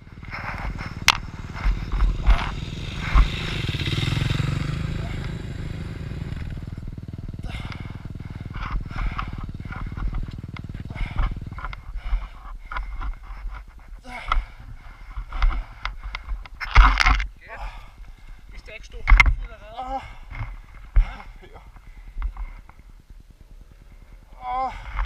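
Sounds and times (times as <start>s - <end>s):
motocross bike engine: 0.0s - 25.0s.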